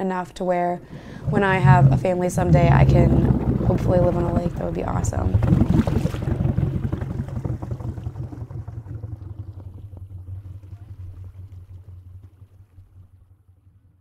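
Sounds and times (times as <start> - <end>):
boat engine idling: 0.8 - 13.2.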